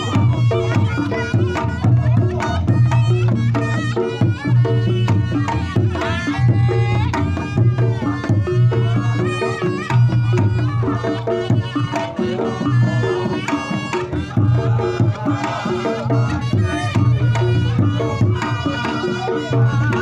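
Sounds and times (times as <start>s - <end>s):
hand drum strokes: 0.0s - 20.0s.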